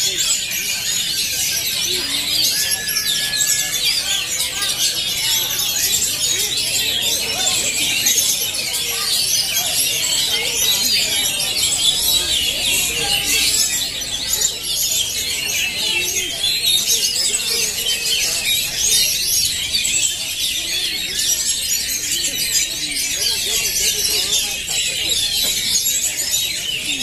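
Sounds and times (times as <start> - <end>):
chorus of songbirds singing: 0.0 - 27.0.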